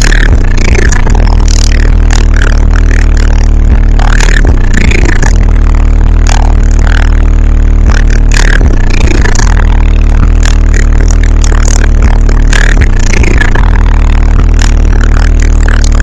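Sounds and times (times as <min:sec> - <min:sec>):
loud rap music with deep bass: 0:00.0 - 0:16.0.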